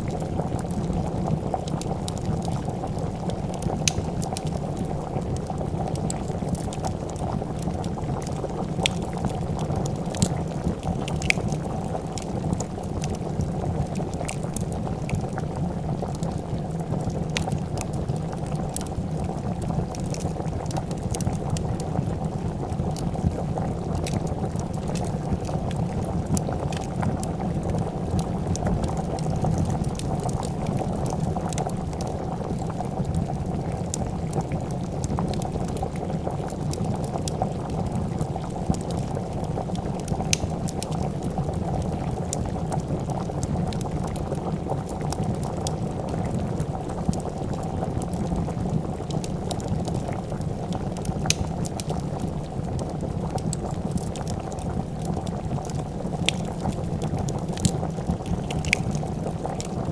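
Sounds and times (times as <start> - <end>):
soup boiling: 0.0 - 59.9
wood fire crackling: 0.0 - 59.9.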